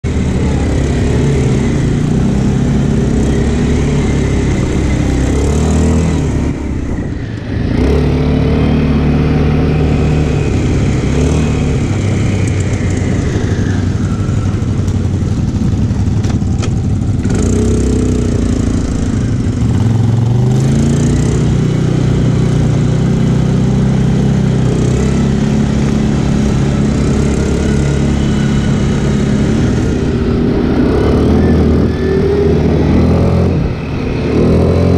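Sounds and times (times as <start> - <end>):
quad bike engine revving: 0.1 - 34.9.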